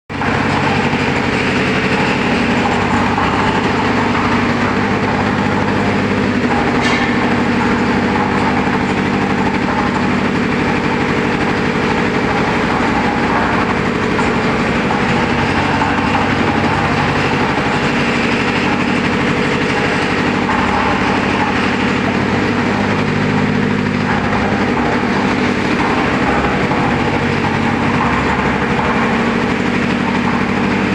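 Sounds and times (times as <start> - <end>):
concrete mixer engine running: 0.1 - 30.9.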